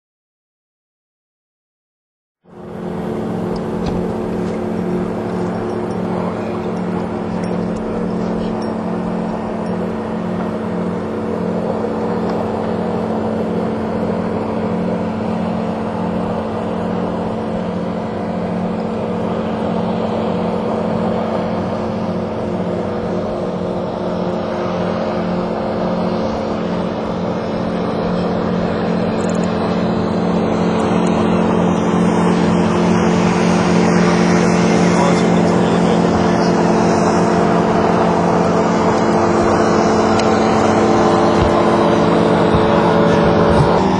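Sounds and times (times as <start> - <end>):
outboard motor running: 2.4 - 43.9.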